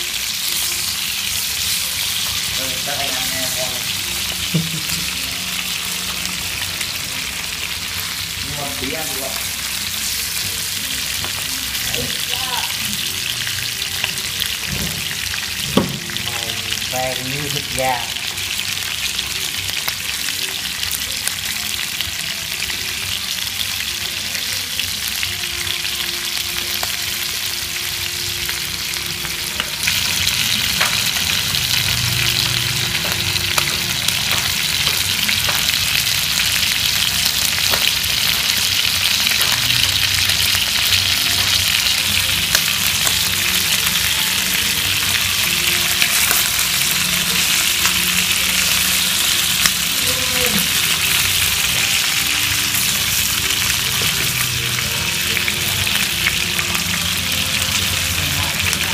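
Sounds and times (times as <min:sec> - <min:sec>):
meat sizzling in oil: 0:00.0 - 0:58.9.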